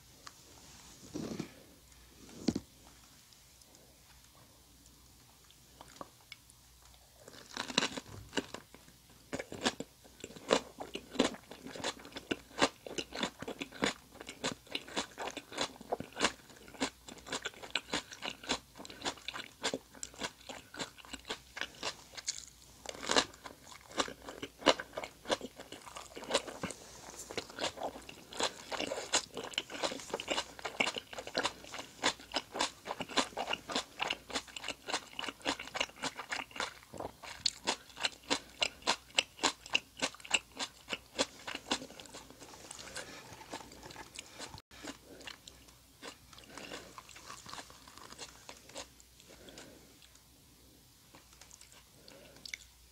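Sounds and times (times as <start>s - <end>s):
crunchy vegetable chewing: 5.4s - 50.2s.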